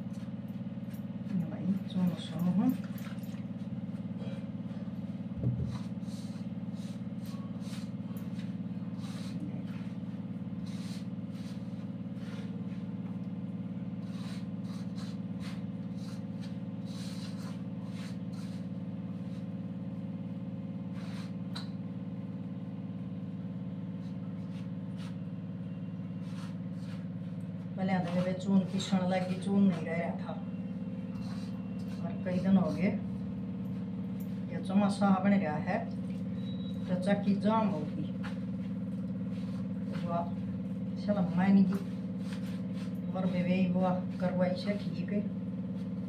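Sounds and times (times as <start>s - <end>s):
electric flour mill humming: 0.0s - 46.0s.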